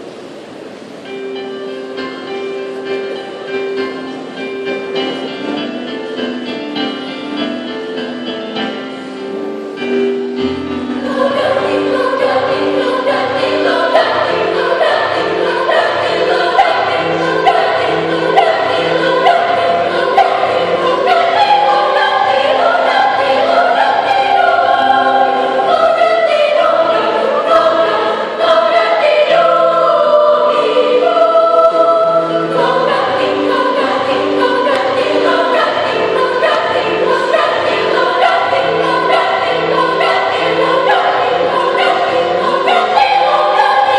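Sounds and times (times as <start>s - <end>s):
children's choir singing: 0.0s - 43.9s
keyboard accompaniment: 0.6s - 43.9s.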